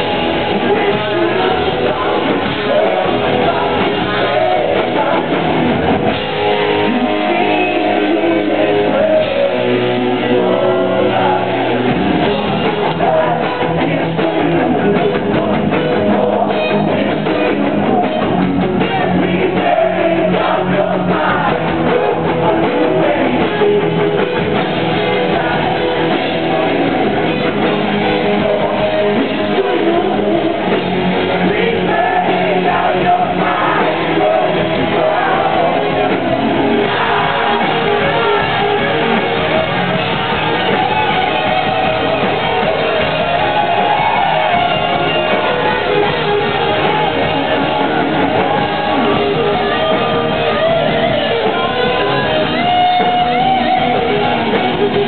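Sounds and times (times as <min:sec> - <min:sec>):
drums: 0:00.0 - 0:55.0
heavy electric guitars: 0:00.0 - 0:55.0
person singing: 0:00.0 - 0:55.0.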